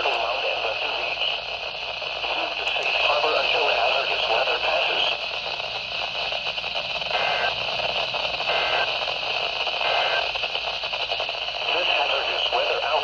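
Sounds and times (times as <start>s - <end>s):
radio hiss and static: 0.0s - 13.0s
two-tone data bursts: 0.0s - 13.0s.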